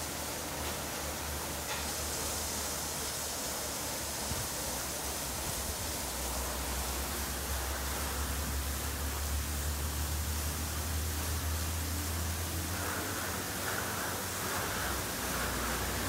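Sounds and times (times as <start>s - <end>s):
water spray hissing: 0.0s - 16.0s.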